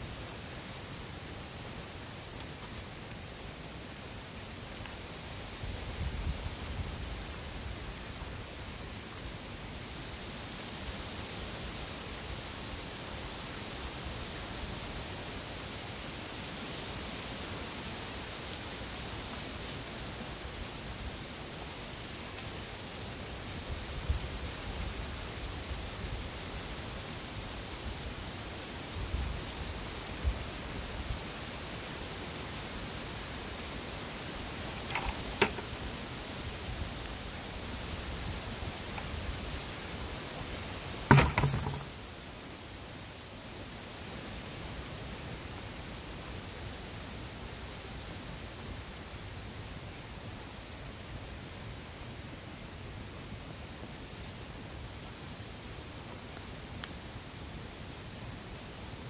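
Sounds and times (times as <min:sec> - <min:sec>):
fire burning with rushing hiss: 0:00.0 - 0:59.0.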